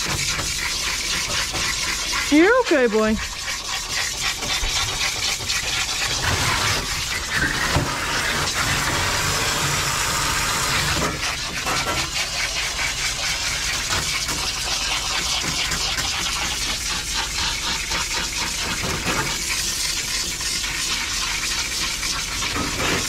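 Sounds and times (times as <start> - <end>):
water spraying from hose: 0.0 - 23.0.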